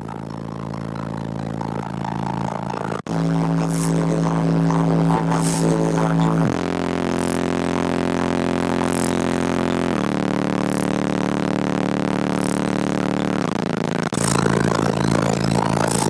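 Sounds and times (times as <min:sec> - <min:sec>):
deep bass music from subwoofers: 0:00.0 - 0:16.0.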